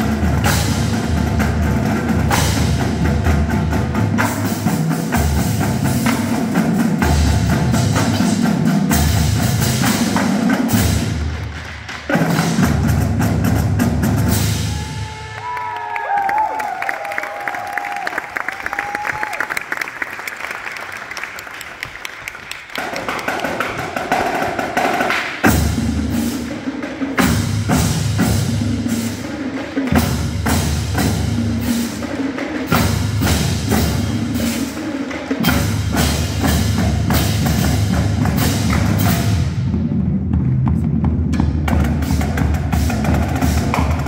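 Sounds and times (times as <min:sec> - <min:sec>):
marching drums and cymbals: 0:00.0 - 0:15.4, 0:22.8 - 0:44.0.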